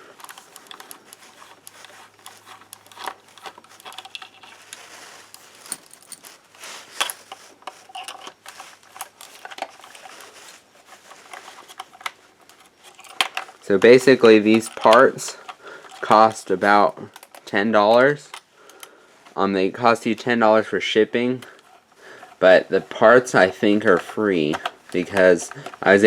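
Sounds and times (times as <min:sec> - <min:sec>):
handling of toy figure: 0:00.0 - 0:19.4, 0:21.2 - 0:26.0.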